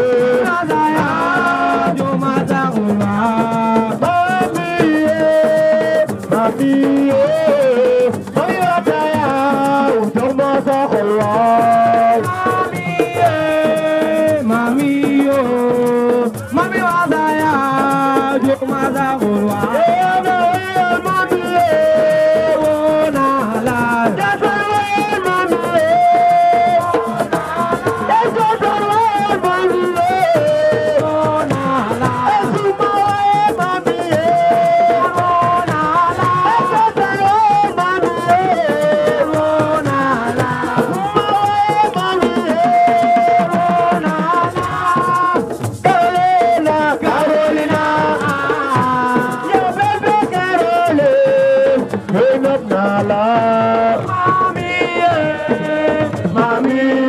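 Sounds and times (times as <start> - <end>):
drums keeping a steady beat: 0.0 - 57.0
instrumental music: 0.0 - 57.0
rattle-like shaker: 0.0 - 57.0.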